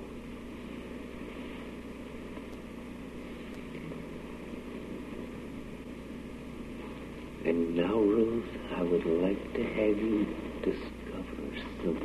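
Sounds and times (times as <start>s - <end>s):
recording hiss and hum: 0.0s - 12.0s.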